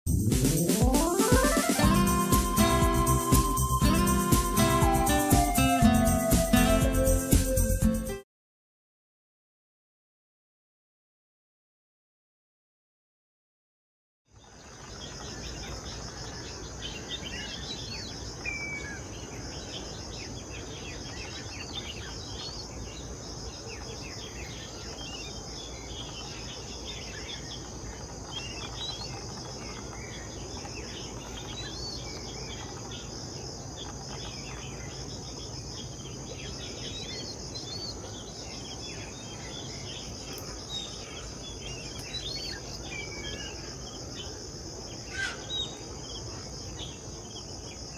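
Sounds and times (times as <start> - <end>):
insects trilling: 1.0 - 7.2, 14.4 - 47.9.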